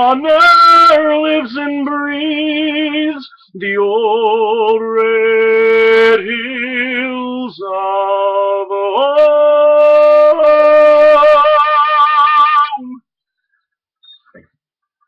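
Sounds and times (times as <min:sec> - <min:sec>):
man singing with vibrato: 0:00.0 - 0:13.1.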